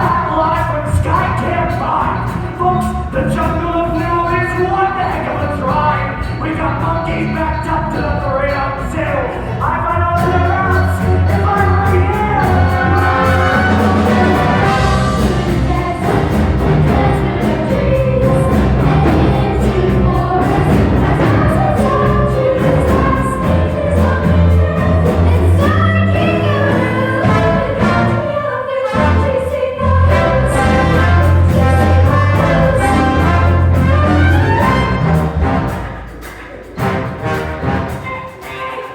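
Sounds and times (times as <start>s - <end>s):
group of voices singing: 0.0s - 38.9s
instrumental backing music: 0.0s - 38.9s.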